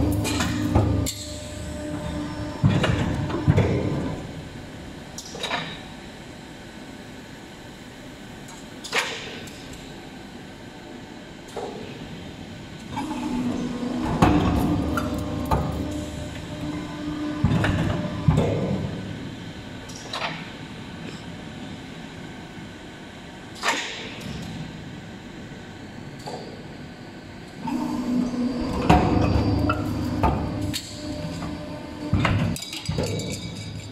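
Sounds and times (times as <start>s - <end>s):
machine hum: 0.0s - 8.5s, 9.8s - 23.6s, 24.2s - 33.9s.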